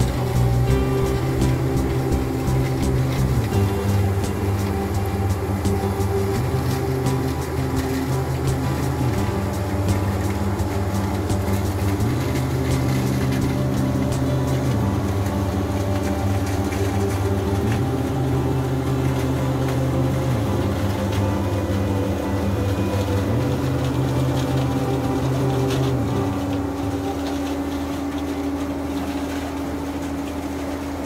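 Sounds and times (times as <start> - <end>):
background music with low chords: 0.0 - 31.0
combine harvester running: 0.0 - 31.0.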